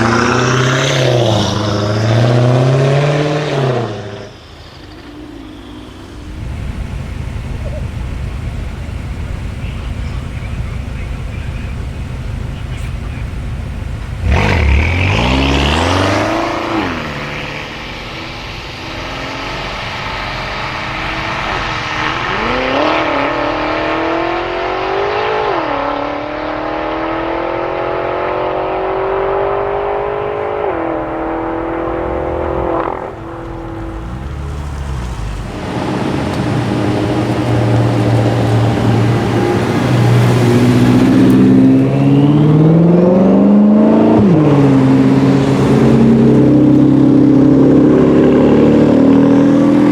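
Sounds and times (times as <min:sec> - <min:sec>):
sports car engine accelerating: 0:00.0 - 0:49.9.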